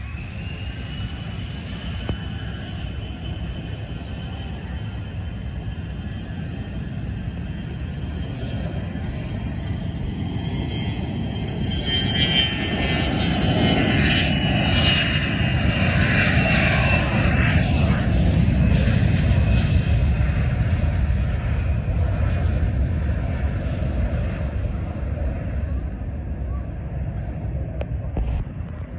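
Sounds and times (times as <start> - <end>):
jet engines roaring with whine: 0.0 - 28.9.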